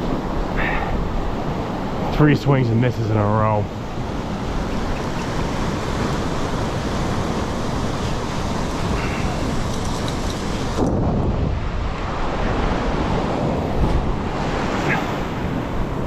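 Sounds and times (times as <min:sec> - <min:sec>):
heavy surf breaking: 0:00.0 - 0:16.0
wind buffeting microphone: 0:00.0 - 0:16.0.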